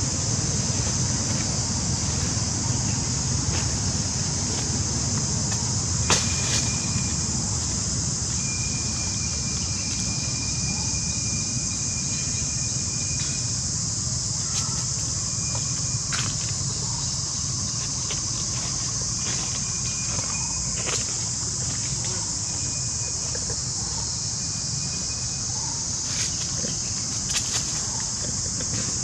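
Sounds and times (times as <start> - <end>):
insect chorus drone: 0.0 - 29.0.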